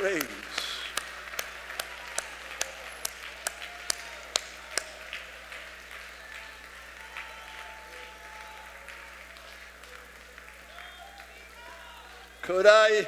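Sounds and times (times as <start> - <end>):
loud even hand clapping: 0.0 - 12.5
congregation applauding: 0.0 - 13.0.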